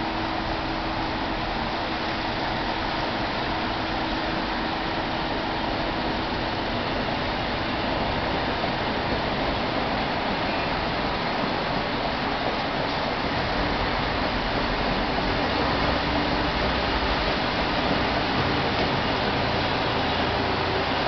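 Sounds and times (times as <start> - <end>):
distant train rumbling: 0.0 - 21.0.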